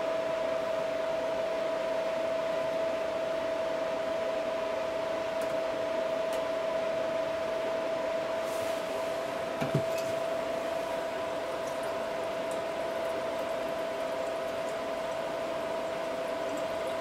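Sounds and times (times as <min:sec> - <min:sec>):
whirring motor hum: 0:00.0 - 0:17.0.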